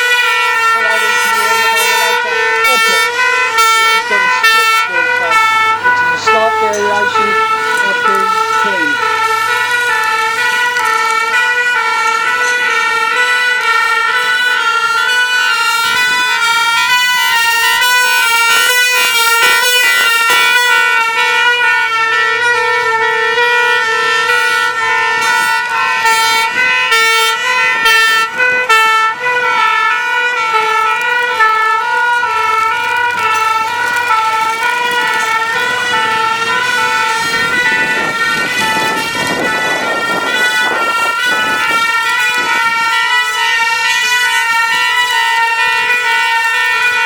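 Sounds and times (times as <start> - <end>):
fire engine two-tone horns: 0.0 - 47.0.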